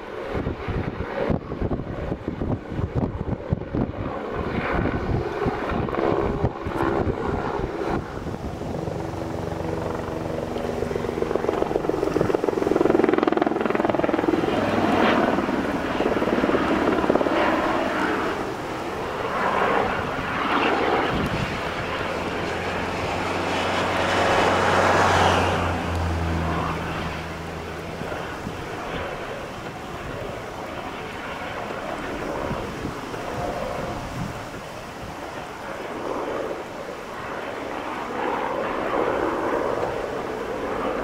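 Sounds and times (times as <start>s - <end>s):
helicopter turbine and rotor: 0.0s - 41.0s
wind buffeting microphone: 0.0s - 41.0s.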